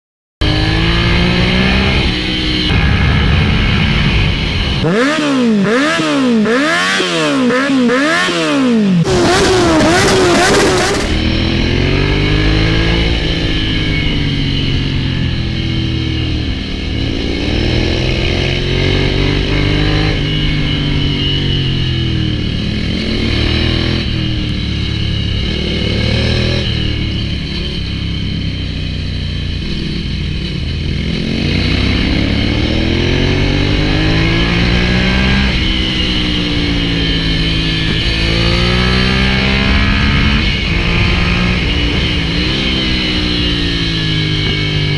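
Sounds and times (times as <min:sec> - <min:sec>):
motorcycle engine revving: 0:00.4 - 0:44.9.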